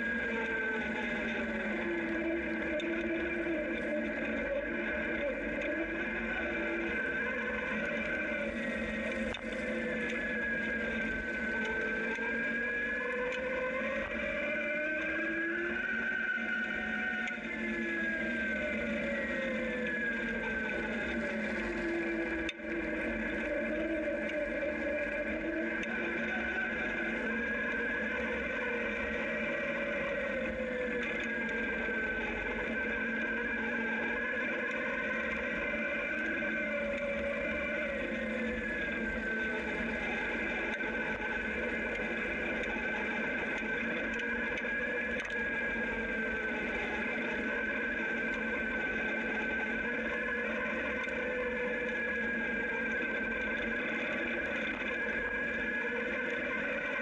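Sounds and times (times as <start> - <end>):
electric motorcycle motor whining: 0.0 - 57.0.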